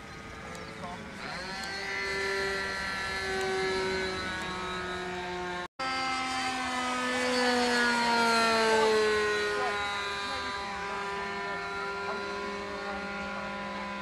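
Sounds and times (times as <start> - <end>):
model aeroplane motor drone: 0.0 - 14.0.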